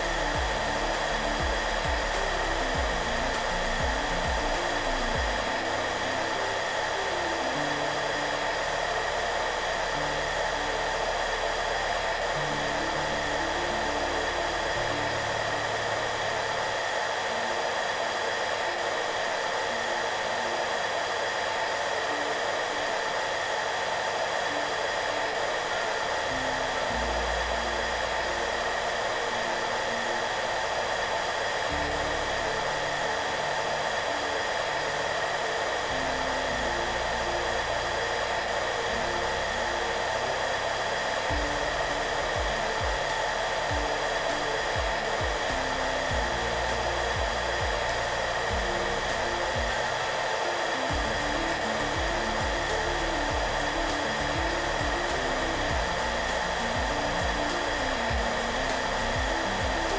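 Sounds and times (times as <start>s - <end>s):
hair dryer running: 0.0s - 59.9s
soft low music notes: 0.0s - 59.9s.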